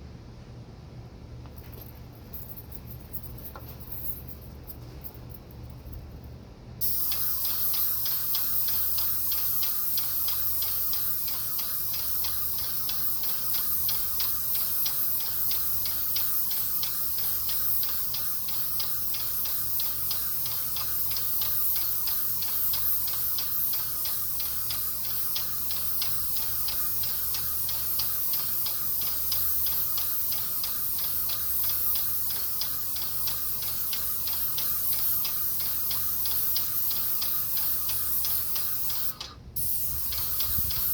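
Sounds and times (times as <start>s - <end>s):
paint sprayer hissing: 6.8s - 40.9s
pump ticking: 6.8s - 40.9s.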